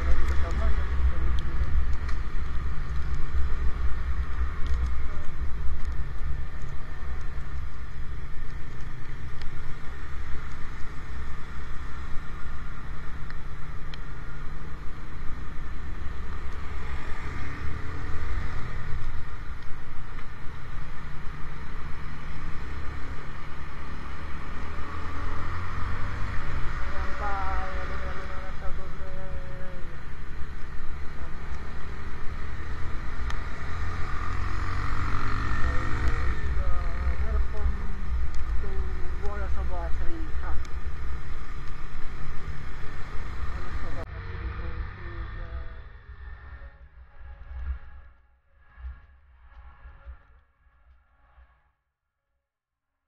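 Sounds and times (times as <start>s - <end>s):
motorcycle engine: 0.0s - 48.0s
road noise: 0.0s - 51.4s.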